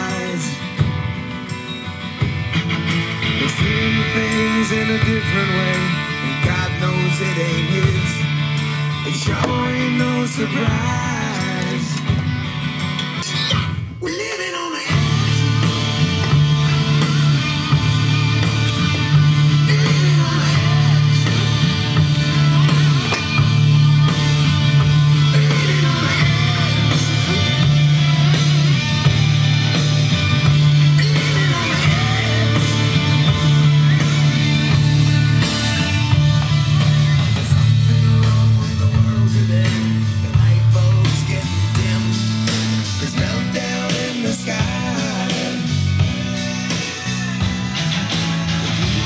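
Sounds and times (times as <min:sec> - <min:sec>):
electric guitar: 0:00.0 - 0:14.0, 0:14.8 - 0:49.0
heavy bass: 0:00.0 - 0:14.1, 0:14.9 - 0:49.0
rock song with singing: 0:00.0 - 0:49.0.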